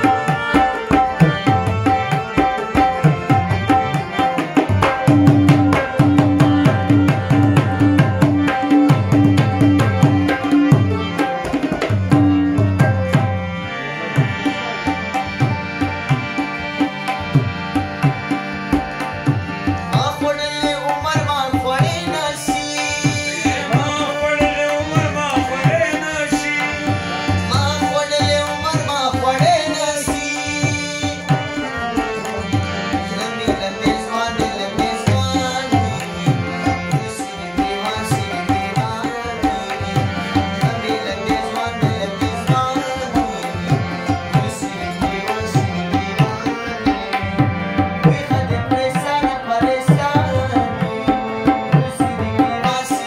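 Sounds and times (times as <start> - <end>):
harmonium chords: 0.0 - 53.0
man singing: 0.0 - 53.0
tabla playing quick rhythm: 0.0 - 53.0.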